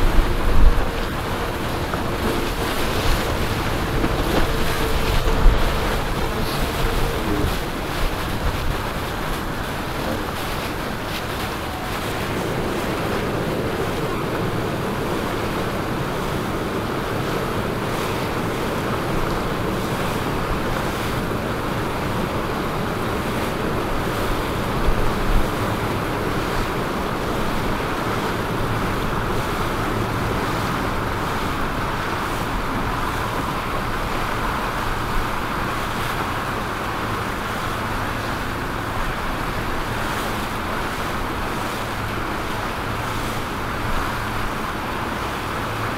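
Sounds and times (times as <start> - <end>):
boat engine hum: 0.0 - 45.9
water rushing: 0.0 - 45.9
wind on microphone: 0.0 - 45.9.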